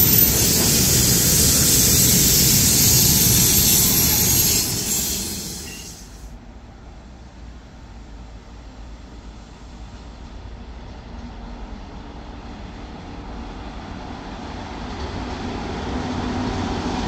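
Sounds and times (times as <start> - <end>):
train wheels rushing on rails: 0.0 - 6.3, 7.3 - 17.0.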